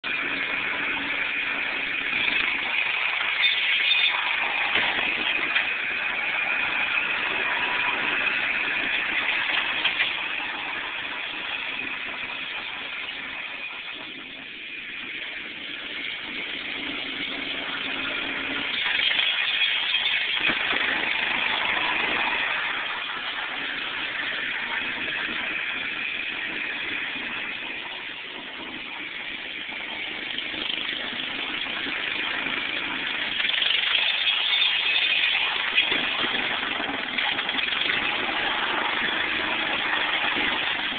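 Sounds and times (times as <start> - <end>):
riding lawnmower engine running: 0.0 - 40.9.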